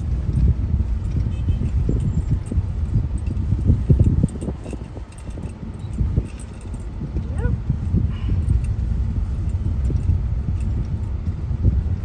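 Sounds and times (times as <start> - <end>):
car rumbling over rough road: 0.0 - 12.0
light clicks and rattles: 0.0 - 12.0.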